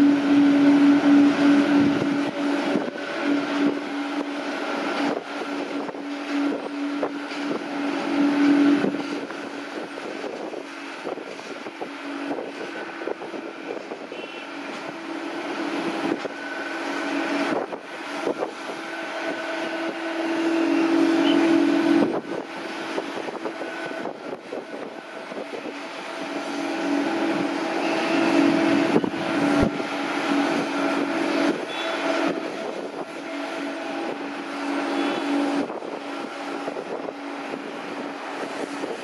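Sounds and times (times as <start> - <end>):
jet engines whining: 0.0 - 39.0
wind buffeting microphone: 0.0 - 39.0.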